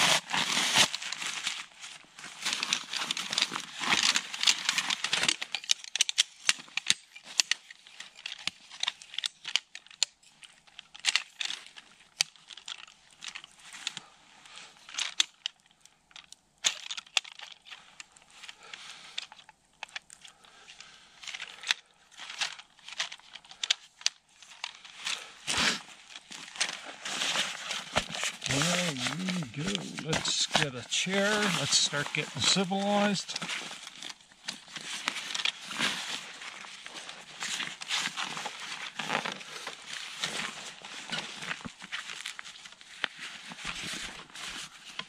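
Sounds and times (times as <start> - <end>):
gear rustling and crinkling: 0.0 - 45.0.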